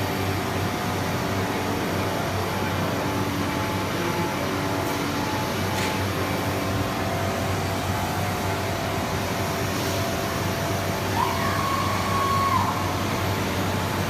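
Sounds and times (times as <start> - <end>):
machine whine: 0.0 - 14.0
workshop machinery drone: 0.0 - 14.0.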